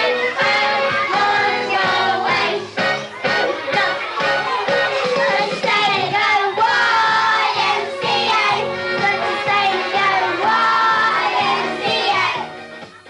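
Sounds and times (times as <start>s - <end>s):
girls singing into microphone: 0.0s - 12.5s
backing music with steady beat: 0.0s - 13.0s.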